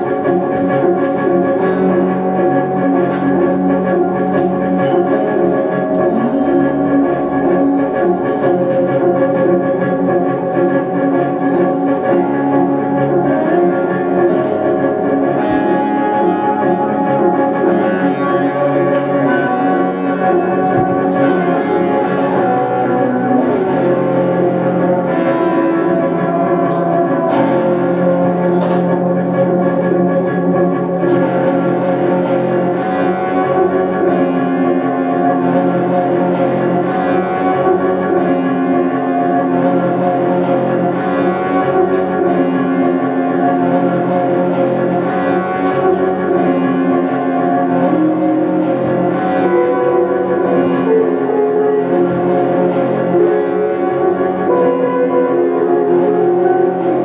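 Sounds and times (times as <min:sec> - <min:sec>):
electric guitar held notes: 0:00.0 - 0:57.0.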